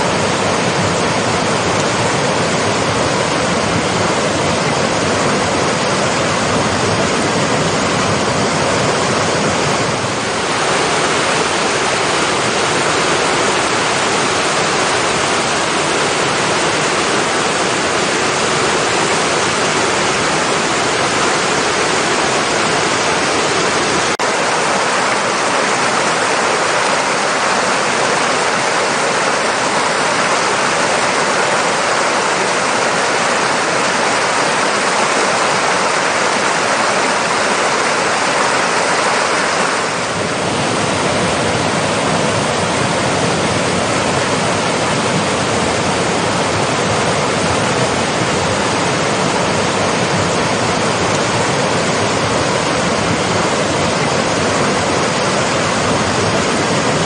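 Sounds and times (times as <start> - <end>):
falling splashing water: 0.0 - 57.0.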